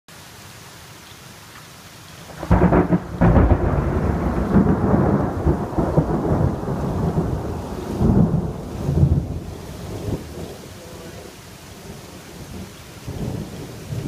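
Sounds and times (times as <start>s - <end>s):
steady rain hiss: 0.1s - 14.0s
thunder rumbling: 2.3s - 14.0s.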